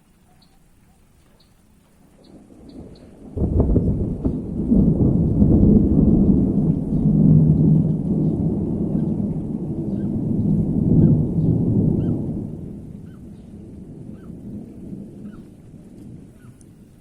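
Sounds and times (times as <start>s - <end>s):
rolling thunder: 2.2s - 17.0s.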